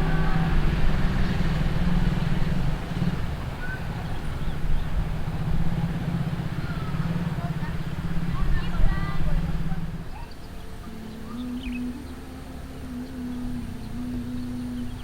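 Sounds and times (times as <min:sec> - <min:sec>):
train passing with low rumble: 0:00.0 - 0:15.0.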